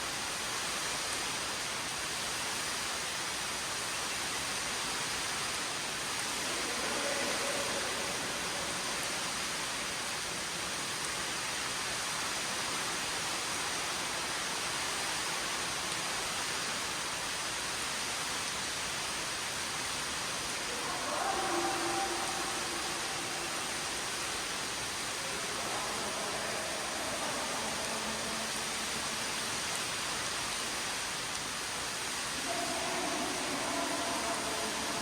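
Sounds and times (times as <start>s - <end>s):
underground waterfall rushing: 0.0s - 35.0s.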